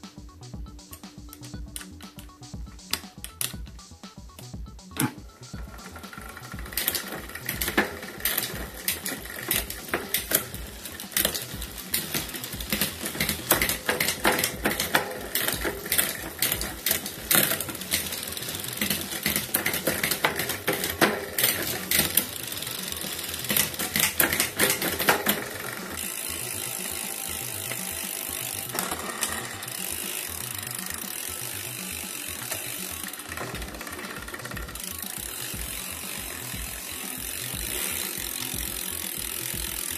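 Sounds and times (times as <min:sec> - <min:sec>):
bicycle chain clicking and ratcheting: 0:00.2 - 0:39.9
bicycle chain whirring: 0:04.8 - 0:39.9.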